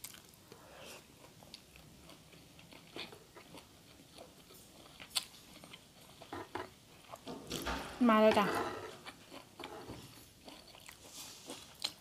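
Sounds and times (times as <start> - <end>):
person chewing food: 0.0 - 7.8, 8.8 - 12.0.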